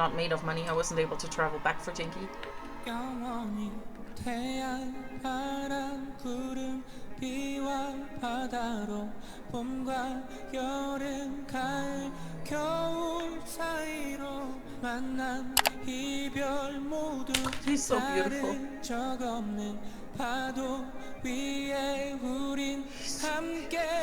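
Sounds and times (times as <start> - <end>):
man singing pop ballad: 2.4 - 24.0.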